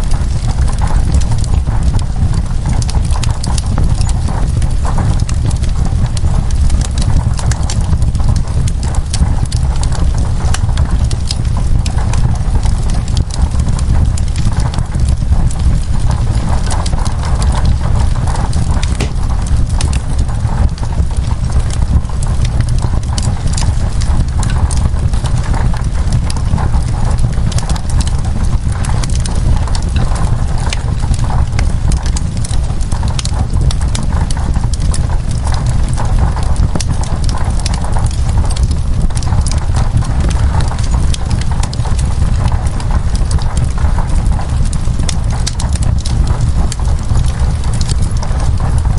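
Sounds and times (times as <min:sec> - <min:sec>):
fireplace crackling and popping: 0:00.0 - 0:48.9
low rumble: 0:00.0 - 0:48.9
rain on window glass: 0:00.0 - 0:48.9.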